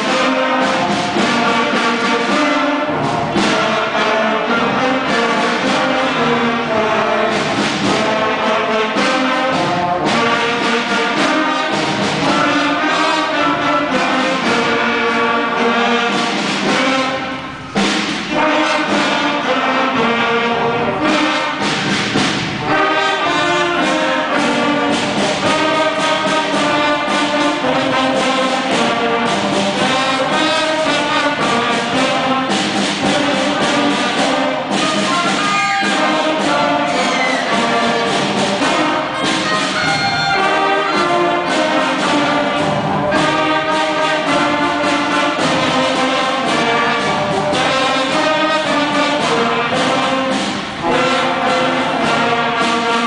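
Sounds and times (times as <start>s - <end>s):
brass sustained notes: 0.0s - 21.7s, 22.6s - 53.0s
concert band playing: 0.0s - 53.0s.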